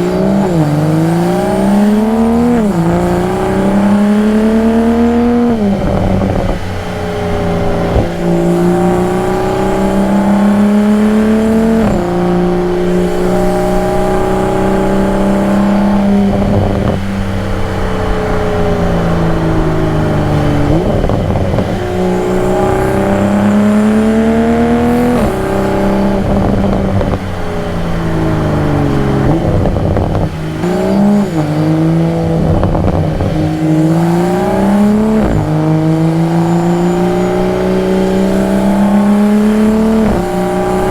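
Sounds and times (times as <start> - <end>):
car engine revving through gear changes: 0.0 - 40.9.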